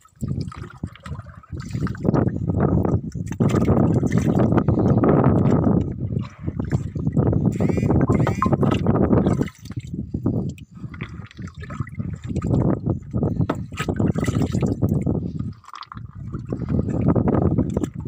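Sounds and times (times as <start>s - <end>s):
water pouring and splashing: 0.0s - 18.0s.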